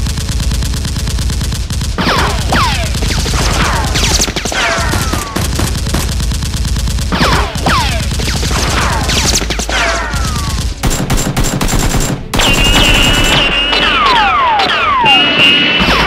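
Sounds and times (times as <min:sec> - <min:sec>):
machine-gun burst: 0:00.0 - 0:16.0.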